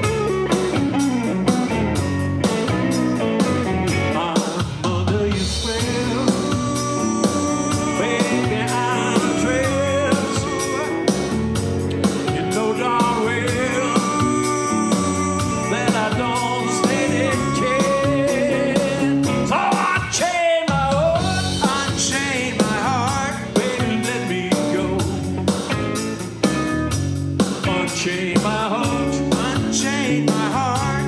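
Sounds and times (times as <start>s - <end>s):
bass guitar: 0.0s - 31.0s
electric guitar: 0.0s - 31.0s
steady drum beat: 0.0s - 31.0s
man singing: 3.8s - 25.5s, 27.5s - 31.0s.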